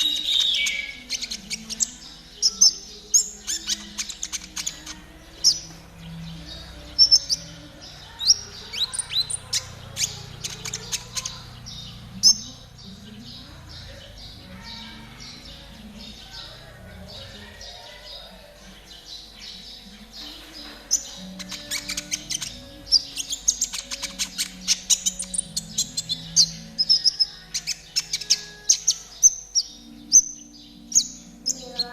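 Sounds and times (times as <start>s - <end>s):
sunbird singing rapid trills: 0.0s - 31.9s.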